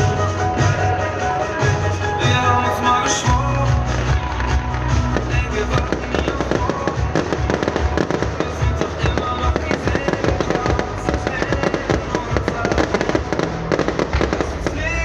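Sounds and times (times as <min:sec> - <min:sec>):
fireworks crackling and popping: 0:00.0 - 0:15.0
music playing: 0:00.0 - 0:15.0.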